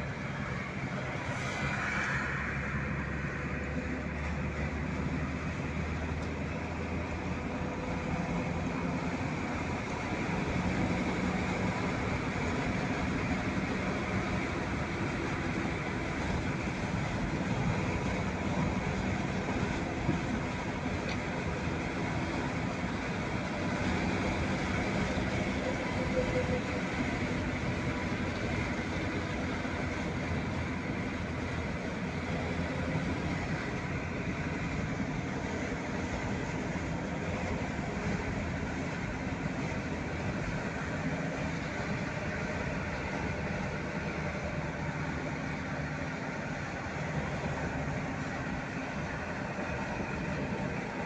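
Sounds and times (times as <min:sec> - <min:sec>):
faint whine: 0:00.0 - 0:51.0
road noise: 0:00.0 - 0:51.0
vehicle rumble and hum: 0:00.0 - 0:51.0.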